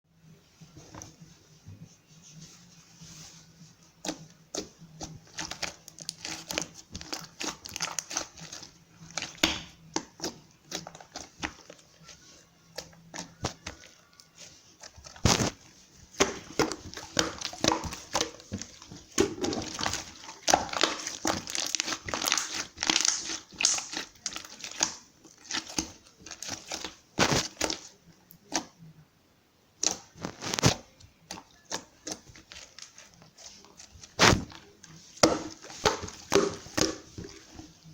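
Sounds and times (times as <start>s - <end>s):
crinkling and rustling: 0.4s - 28.8s, 29.8s - 37.9s.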